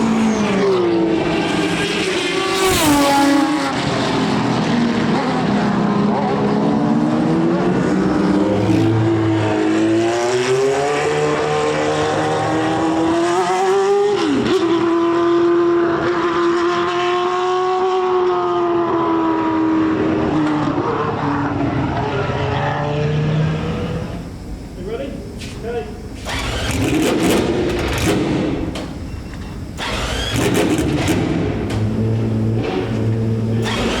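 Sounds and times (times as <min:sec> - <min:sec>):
racing car engine running hard: 0:00.0 - 0:25.3, 0:26.0 - 0:34.0.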